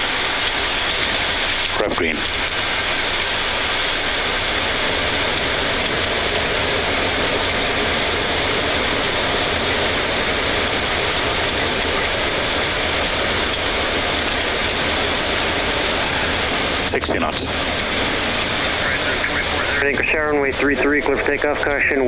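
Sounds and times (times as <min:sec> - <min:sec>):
jet engines in reverse thrust: 0:00.0 - 0:22.0.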